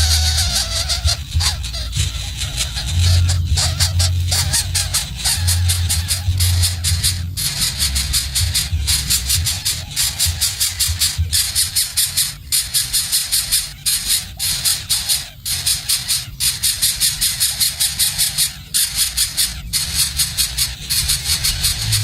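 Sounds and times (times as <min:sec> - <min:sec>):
low steady hum: 0:00.0 - 0:22.0
nestling birds begging calls: 0:00.0 - 0:22.0.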